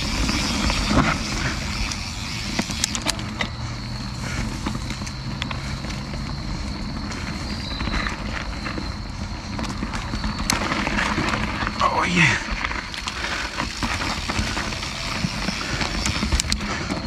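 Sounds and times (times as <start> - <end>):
bike clicks and rattles: 0.0 - 17.0
tyre and wind rumble: 0.0 - 17.0.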